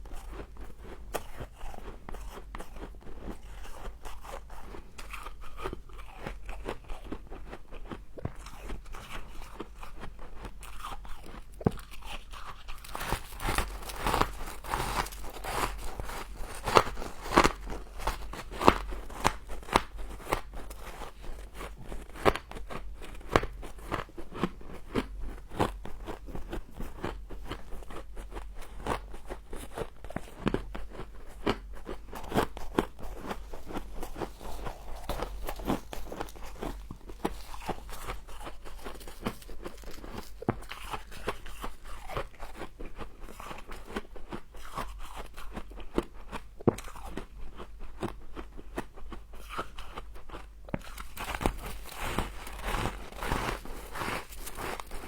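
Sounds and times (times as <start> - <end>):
person chewing crunchy frost: 0.0 - 55.0.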